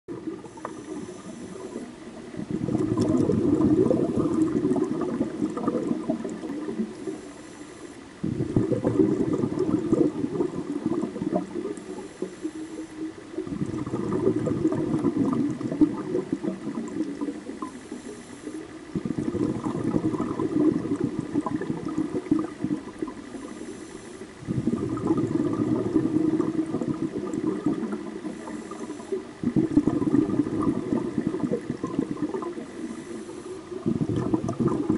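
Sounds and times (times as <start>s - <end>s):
gurgling exhaled bubbles: 0.1s - 7.4s, 8.2s - 34.9s
faint hiss: 0.1s - 34.9s.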